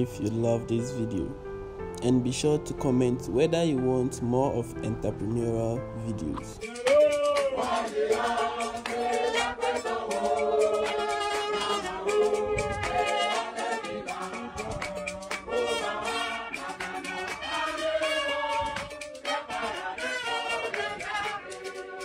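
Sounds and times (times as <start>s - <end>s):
music with singing and beat: 4.0s - 22.0s.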